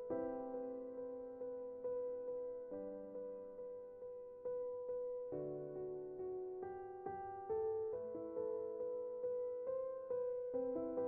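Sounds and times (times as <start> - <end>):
slow sad piano music: 0.0 - 11.0.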